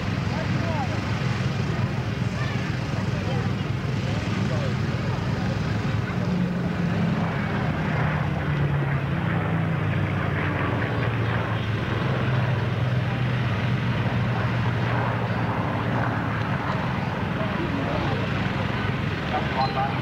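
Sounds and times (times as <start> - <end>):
aircraft piston engines droning: 0.0 - 20.0
crowd noise: 0.0 - 20.0
wind: 0.0 - 20.0.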